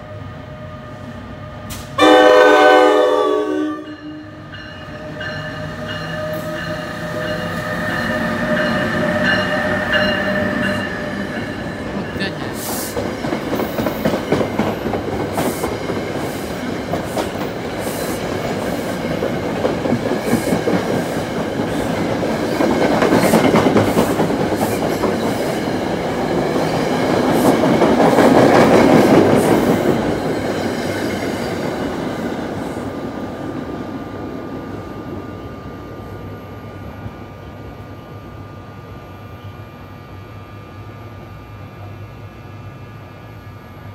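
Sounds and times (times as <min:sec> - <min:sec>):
passenger train rolling past: 0:00.0 - 0:43.9.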